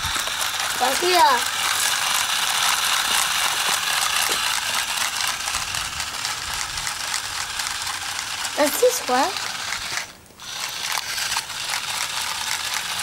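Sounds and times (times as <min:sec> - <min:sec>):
small motor whirring: 0:00.0 - 0:13.0.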